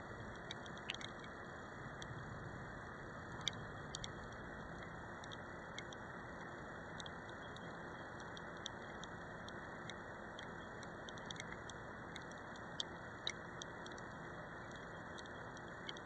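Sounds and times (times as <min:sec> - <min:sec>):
raindrops ticking on camera: 0:00.0 - 0:16.0.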